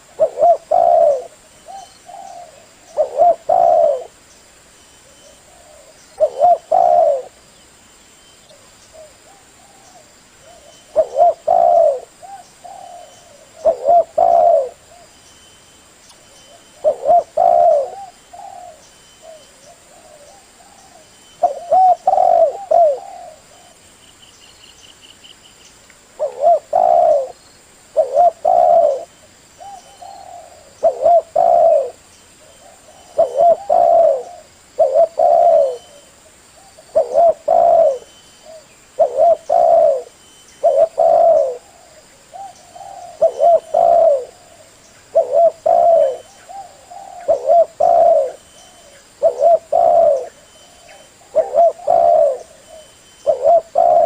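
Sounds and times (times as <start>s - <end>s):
dove cooing: 0.0s - 4.2s, 5.0s - 7.4s, 8.5s - 15.1s, 16.5s - 23.8s, 26.2s - 54.0s.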